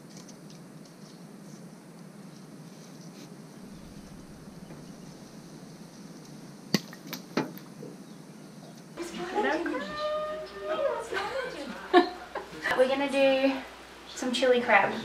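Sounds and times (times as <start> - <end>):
low background hiss: 0.3 - 15.0.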